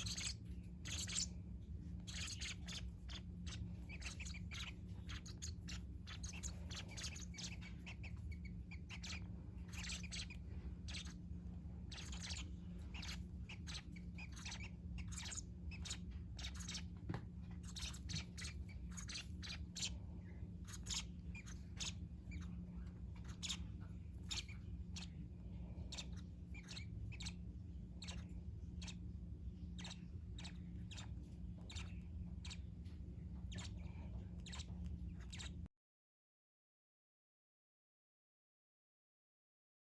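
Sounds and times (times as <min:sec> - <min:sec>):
lovebirds chirping: 0:00.0 - 0:35.7
steady low hum: 0:00.0 - 0:35.7.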